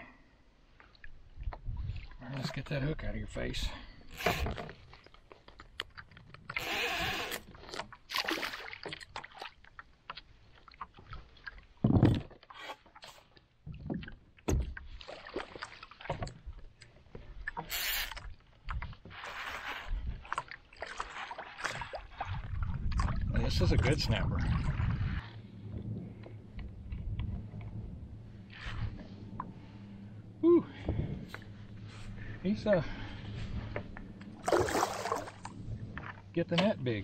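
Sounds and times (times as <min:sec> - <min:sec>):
water splashing against kayak hull: 0:04.1 - 0:36.7.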